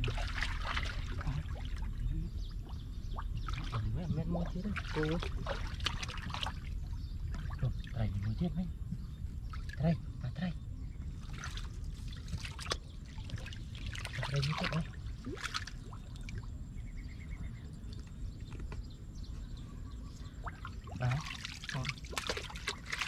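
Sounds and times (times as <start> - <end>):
water splashing and trickling: 0.0 - 18.9, 20.2 - 23.0.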